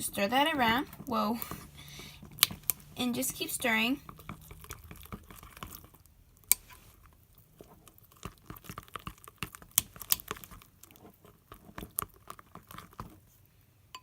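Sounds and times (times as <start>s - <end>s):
wet slime squishing: 0.0s - 13.5s.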